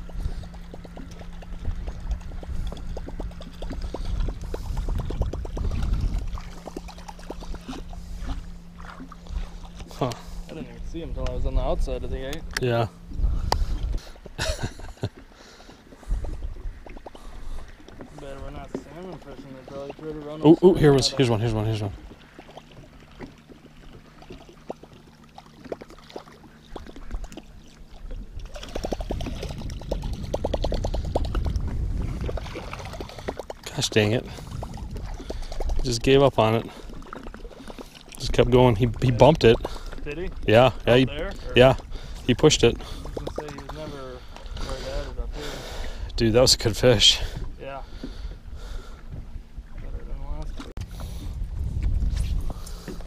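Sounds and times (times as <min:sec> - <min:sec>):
water lapping against boat: 0:00.0 - 0:53.0.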